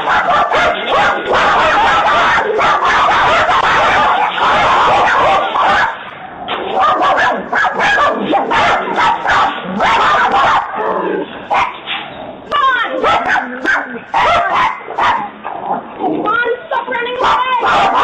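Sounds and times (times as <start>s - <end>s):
dog barking: 0.0s - 12.0s, 12.9s - 15.8s, 17.1s - 18.0s.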